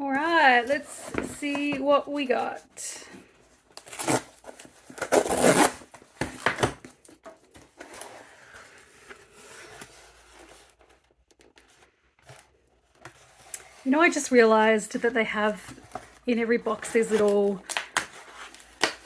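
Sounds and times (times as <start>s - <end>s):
paper and cardboard rustling: 0.2s - 19.0s.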